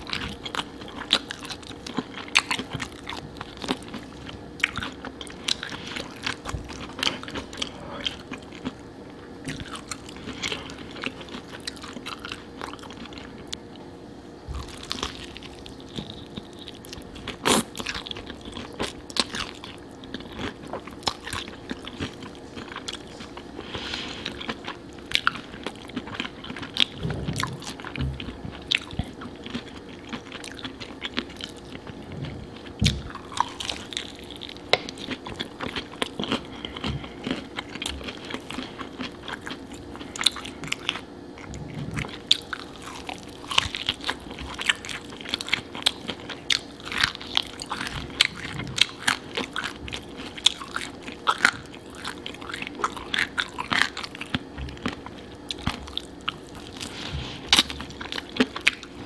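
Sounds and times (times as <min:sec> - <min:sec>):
wet chewing: 0:00.0 - 0:13.6, 0:14.5 - 0:59.0.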